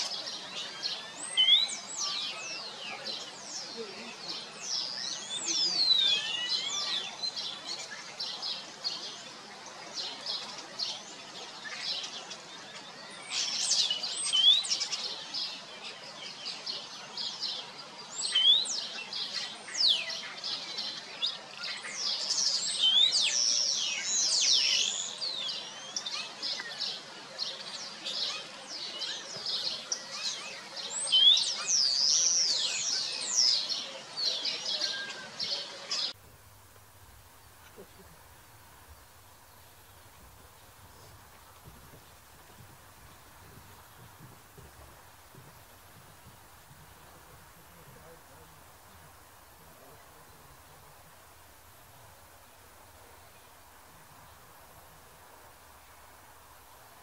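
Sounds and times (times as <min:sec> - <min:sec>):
faint outdoor hiss: 0:00.0 - 0:57.0
small birds chirping: 0:00.0 - 0:57.0.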